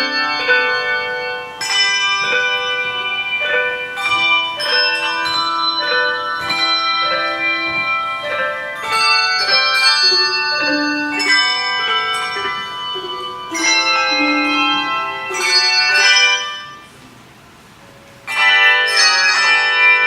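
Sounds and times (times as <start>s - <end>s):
handbell choir ringing chords: 0.0s - 17.0s, 18.3s - 20.0s.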